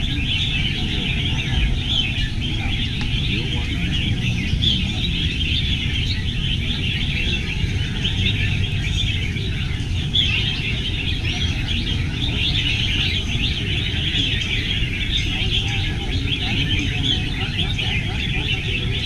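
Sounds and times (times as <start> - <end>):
birds chirping and warbling: 0.0 - 19.0
steady low rumble: 0.0 - 19.0.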